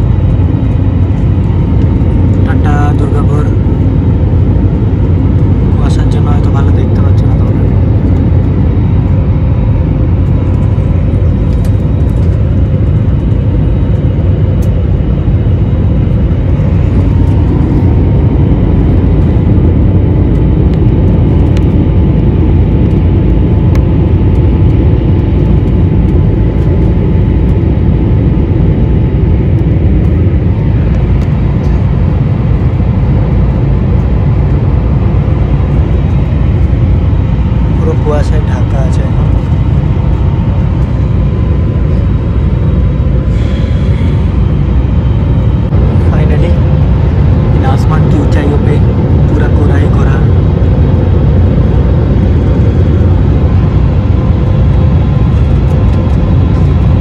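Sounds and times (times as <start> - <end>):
faint steady whine: 0.0 - 57.0
jet cabin engine rumble: 0.0 - 57.0.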